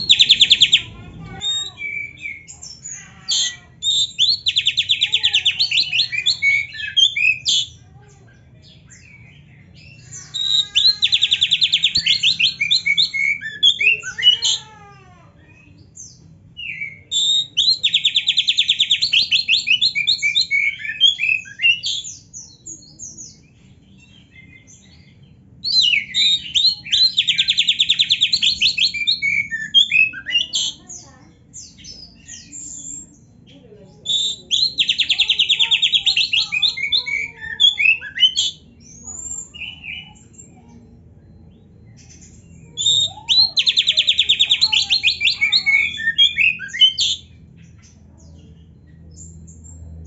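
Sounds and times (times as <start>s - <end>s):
magpie-robin singing: 0.0s - 50.0s.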